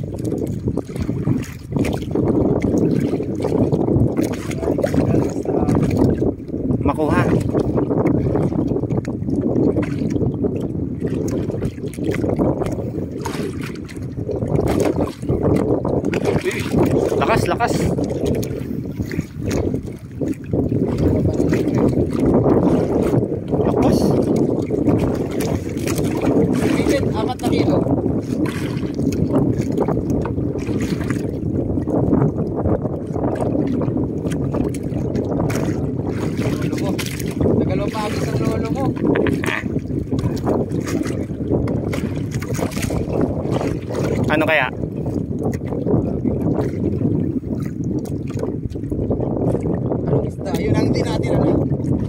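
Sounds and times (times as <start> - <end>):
water sloshing against a hull: 0.0 - 52.0
wind buffeting the microphone: 0.0 - 52.0.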